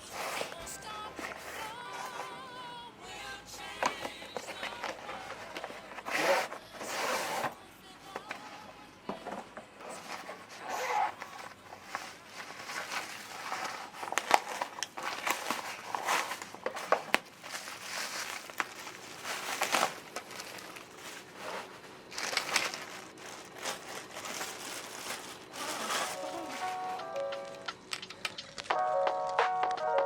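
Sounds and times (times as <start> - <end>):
crinkling and rustling: 0.0 - 2.6, 3.6 - 28.7.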